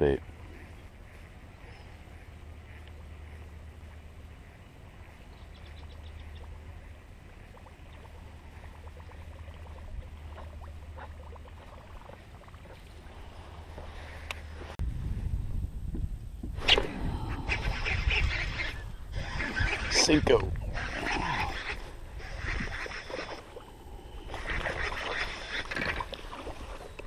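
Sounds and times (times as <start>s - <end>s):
water lapping: 0.2s - 14.8s, 17.1s - 27.0s
steady low rumble: 0.2s - 19.2s, 20.5s - 24.9s.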